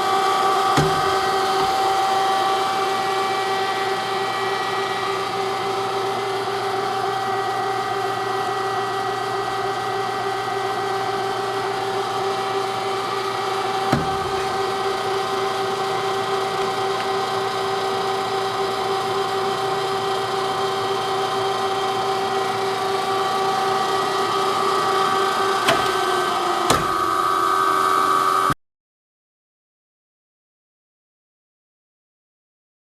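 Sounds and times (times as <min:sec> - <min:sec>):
saw machine hum: 0:00.0 - 0:28.6.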